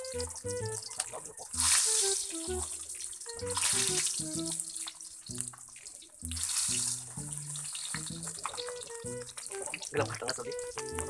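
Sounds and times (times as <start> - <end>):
background music: 0.0 - 11.0
hotdogs sizzling in hot oil: 0.0 - 11.0.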